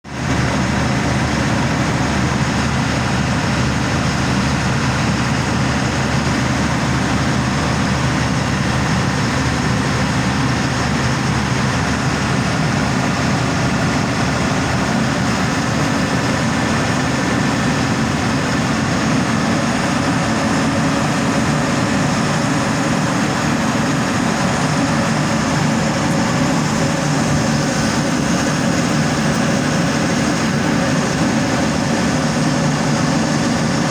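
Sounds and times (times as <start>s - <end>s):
diesel engine droning: 0.1s - 33.9s.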